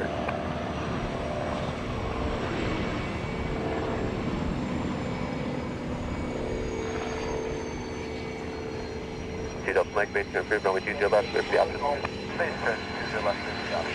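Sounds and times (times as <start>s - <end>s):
aircraft engine drone: 0.0s - 13.9s.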